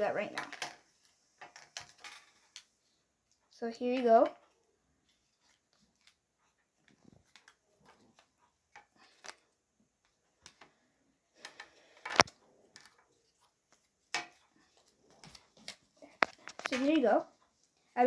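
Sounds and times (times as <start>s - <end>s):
wooden sticks clicking and scraping: 0.0s - 10.8s, 11.4s - 18.0s.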